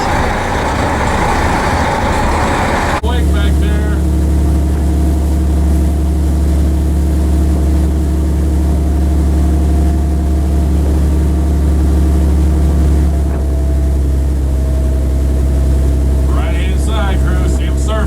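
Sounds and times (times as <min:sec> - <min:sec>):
speedboat engines droning: 0:00.0 - 0:18.0.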